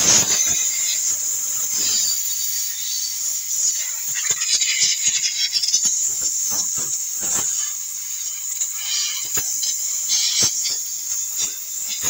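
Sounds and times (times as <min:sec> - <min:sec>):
air hissing through hose nozzle: 0:00.0 - 0:12.0.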